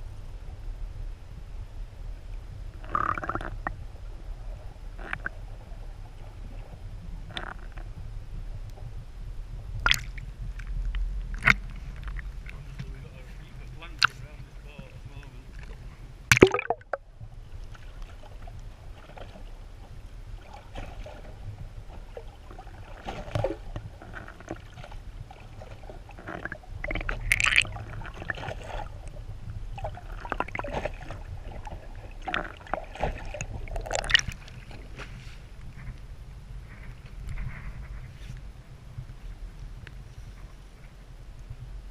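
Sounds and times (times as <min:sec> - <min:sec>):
low underwater rumble: 0:00.0 - 0:41.9
water sloshing and bubbling: 0:00.0 - 0:41.9.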